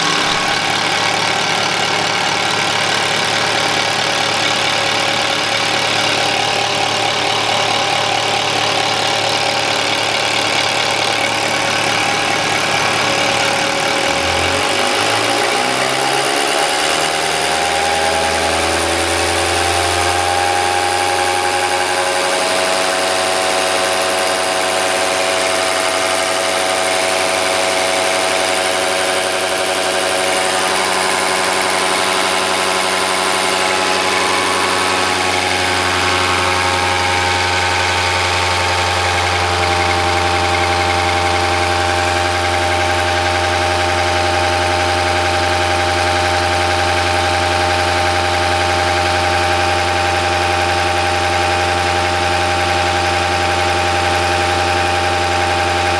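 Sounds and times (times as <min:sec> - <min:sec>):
injection pump humming and whining: 0:00.0 - 0:55.9.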